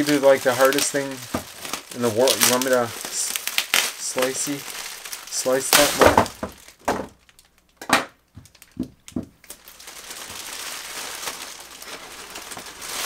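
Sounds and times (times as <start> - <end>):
bubble wrap crackling and rustling: 0.0 - 7.8, 8.4 - 13.0.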